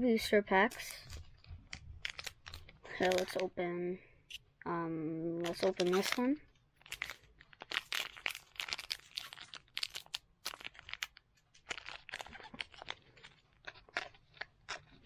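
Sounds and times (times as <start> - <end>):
foil wrapper crinkling: 0.6 - 3.5, 5.4 - 15.0.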